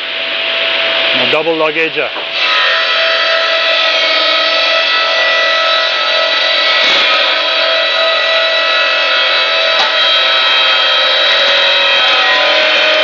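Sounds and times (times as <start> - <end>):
sawmill machinery whining: 1.1 - 13.0.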